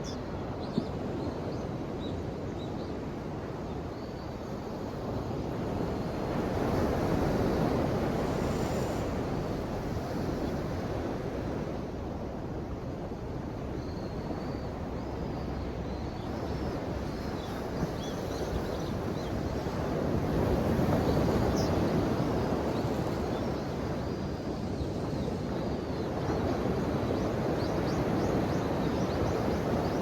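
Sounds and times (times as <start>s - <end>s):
ocean waves washing in: 3.4s - 30.0s.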